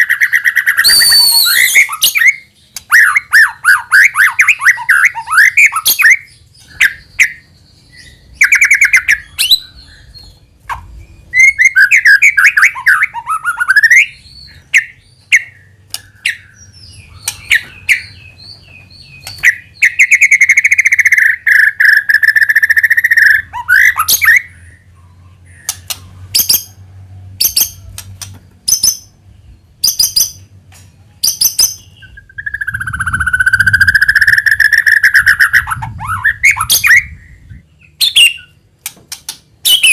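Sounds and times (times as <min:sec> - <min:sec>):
bird singing warbled phrases: 0:00.0 - 0:26.8, 0:31.1 - 0:39.9
sharp ticking bird notes: 0:00.0 - 0:26.8, 0:31.2 - 0:39.9.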